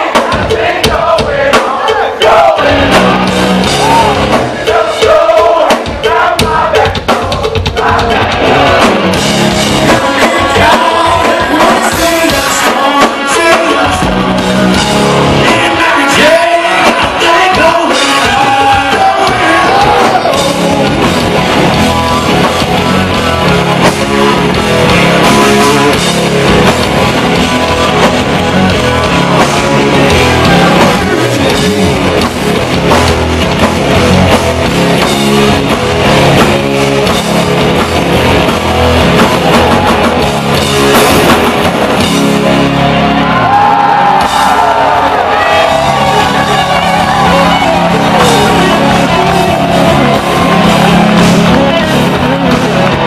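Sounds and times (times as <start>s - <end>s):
rock band playing: 0.0s - 53.0s.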